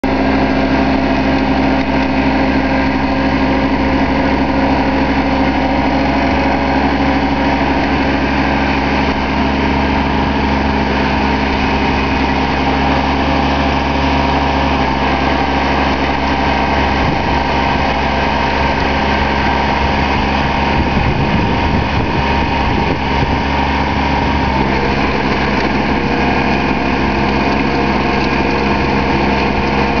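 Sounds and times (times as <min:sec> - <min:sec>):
rotary tiller through soil: 0:00.0 - 0:30.0
tractor engine running under load: 0:00.0 - 0:30.0.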